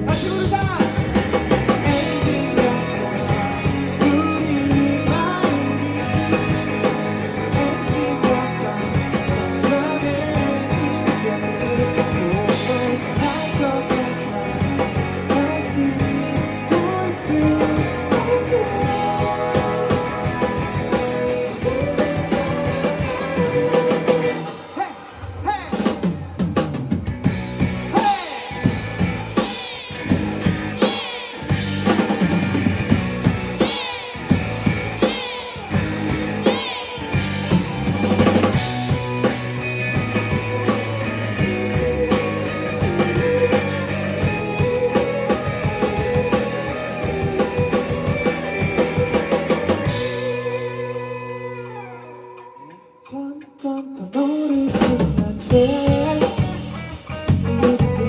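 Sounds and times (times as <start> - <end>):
bending electric guitar lines: 0.0 - 26.0, 26.7 - 53.0
drum kit playing: 0.0 - 51.9, 54.1 - 58.0.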